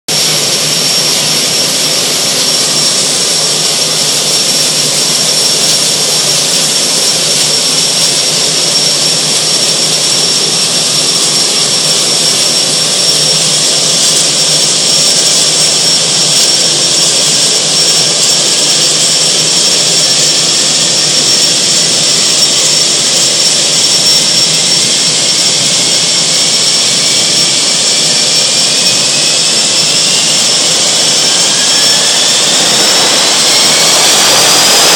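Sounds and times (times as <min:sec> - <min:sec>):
high-pitched turbine whine: 0:00.1 - 0:34.9
turboprop engine running: 0:00.1 - 0:34.9.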